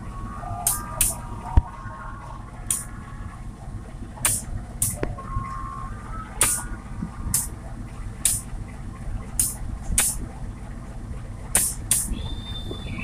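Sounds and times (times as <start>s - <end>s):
locomotive engine rumbling: 0.0s - 13.0s.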